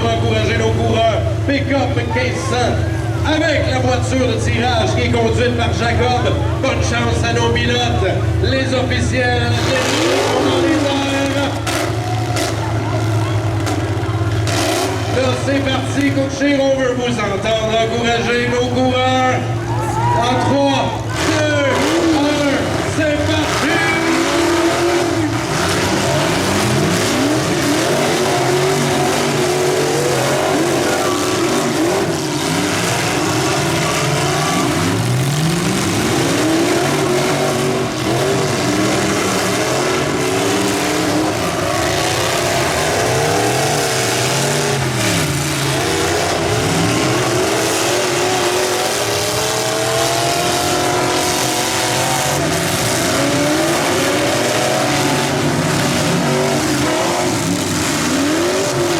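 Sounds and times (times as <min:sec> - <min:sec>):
car engines revving hard: 0:00.0 - 0:58.9.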